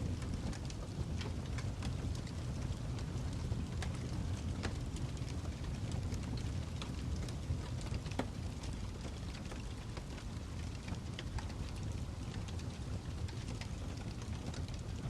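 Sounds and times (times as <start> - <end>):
fire crackling and popping: 0.0 - 15.0
wood fire burning: 0.0 - 15.0.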